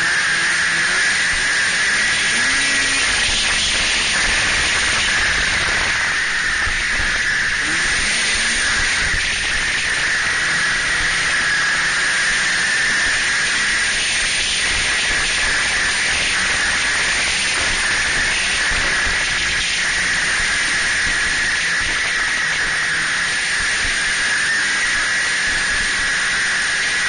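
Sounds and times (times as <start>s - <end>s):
high engine whine: 0.0s - 27.0s
snowmobile engine: 0.0s - 27.0s.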